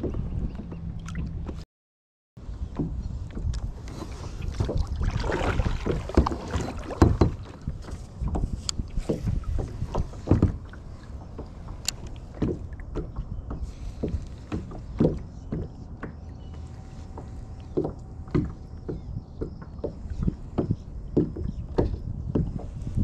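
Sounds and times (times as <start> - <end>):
low rumble of wind and water: 0.0 - 1.6, 2.4 - 23.0.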